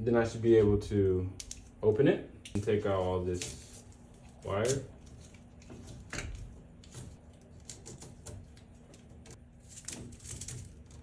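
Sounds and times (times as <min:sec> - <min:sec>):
cable rustling and clicking: 0:01.4 - 0:11.0.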